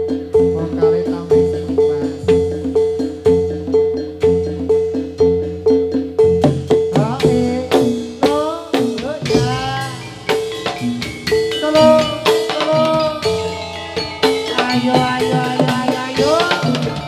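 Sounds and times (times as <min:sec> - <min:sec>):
drumming: 0:00.0 - 0:17.0
metallophones striking notes: 0:00.0 - 0:17.0.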